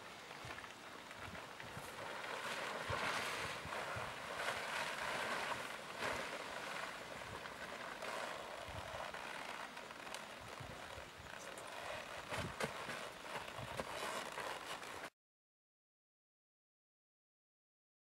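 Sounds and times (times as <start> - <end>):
plastic tarp rustling: 0.0 - 15.1.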